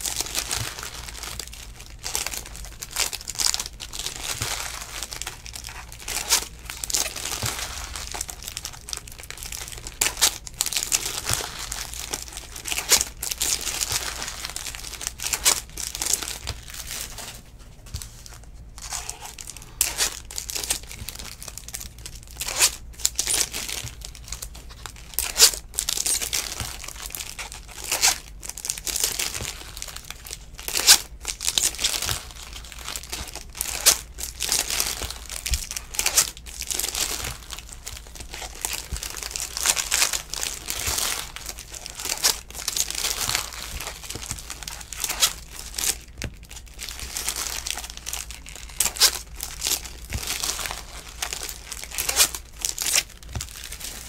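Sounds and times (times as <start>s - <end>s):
cards rustling: 0.0s - 54.0s
foil wrappers crinkling and tearing: 0.0s - 54.0s
steady low hum: 0.0s - 54.0s.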